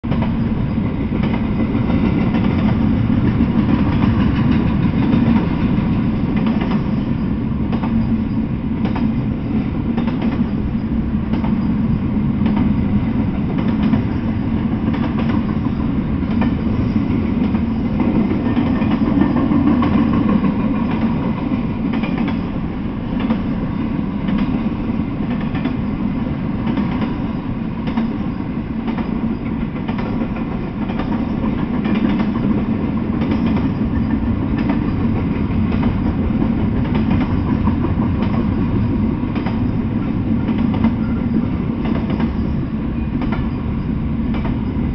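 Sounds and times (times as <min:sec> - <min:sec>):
train wheels rumbling on rails: 0:00.0 - 0:44.9
wheels clicking on rail joints: 0:00.1 - 0:44.9.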